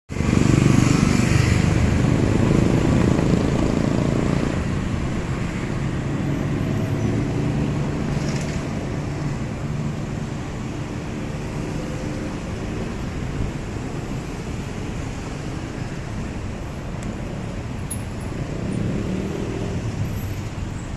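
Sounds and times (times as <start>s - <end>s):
steady traffic hum: 0.1s - 20.9s.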